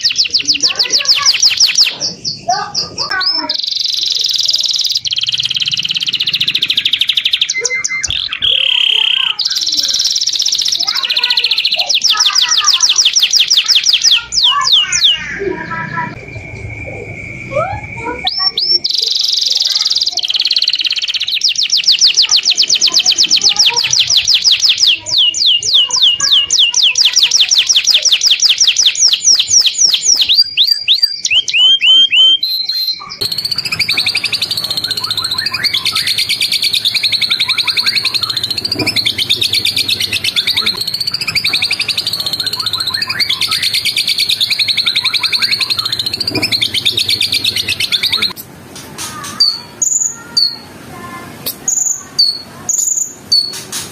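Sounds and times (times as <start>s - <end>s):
shrill bird trill: 0.0s - 48.4s, 49.0s - 53.9s
songbird chirps: 0.0s - 53.9s.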